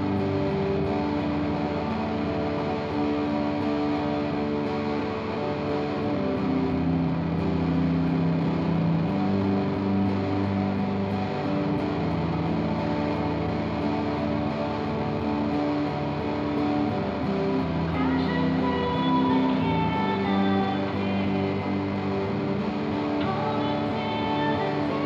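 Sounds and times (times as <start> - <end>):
electric guitar chords: 0.0 - 25.0.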